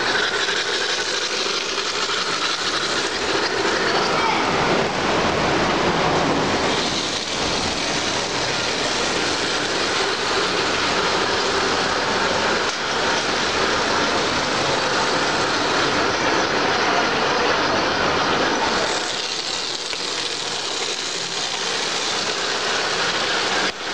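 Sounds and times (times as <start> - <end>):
model trains whirring: 0.0 - 23.9.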